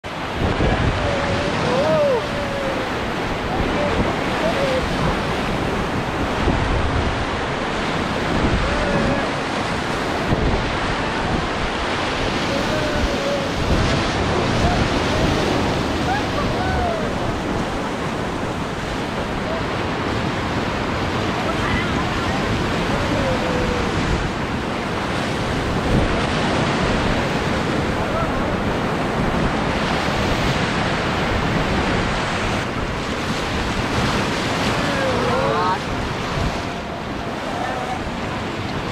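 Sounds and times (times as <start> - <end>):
whitewater rushing and splashing: 0.0 - 38.9
wind buffeting microphone: 0.0 - 38.9.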